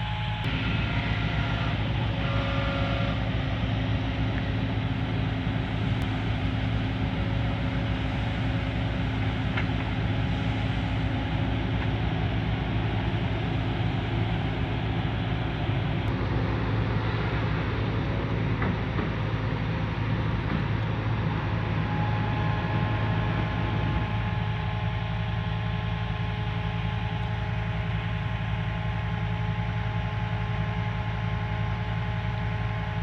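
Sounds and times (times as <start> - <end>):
dump truck engine running: 0.0 - 33.0
excavator diesel engine: 0.0 - 33.0.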